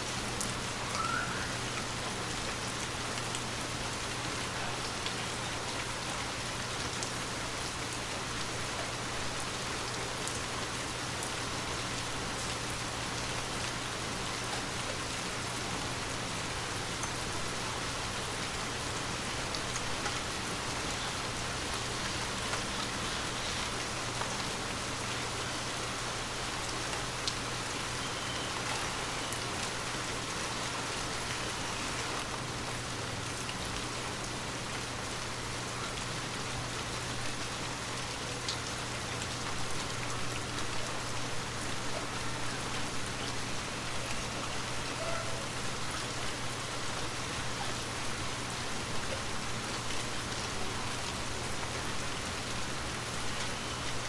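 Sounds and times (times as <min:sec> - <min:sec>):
light rain on window pane: 0:00.0 - 0:54.0.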